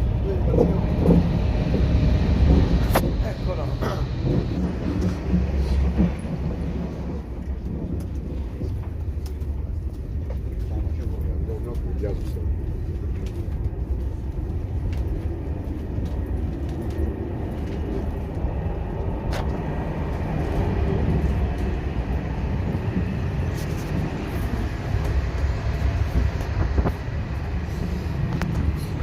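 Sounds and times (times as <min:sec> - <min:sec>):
train rumble: 0:00.0 - 0:29.0.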